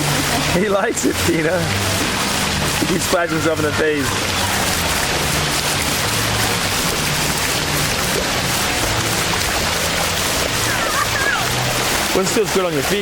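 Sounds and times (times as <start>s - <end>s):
background music: 0.0s - 13.0s
fountain water splashing: 0.0s - 13.0s.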